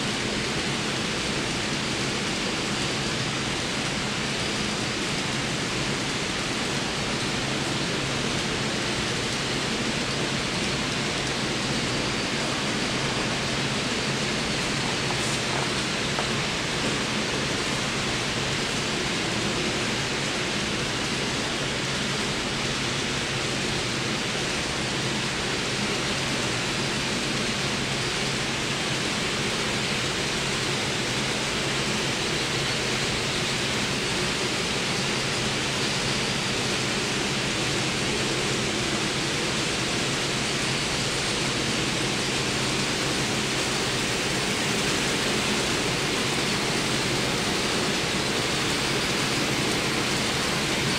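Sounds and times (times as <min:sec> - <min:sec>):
steady background hiss: 0:00.0 - 0:50.9.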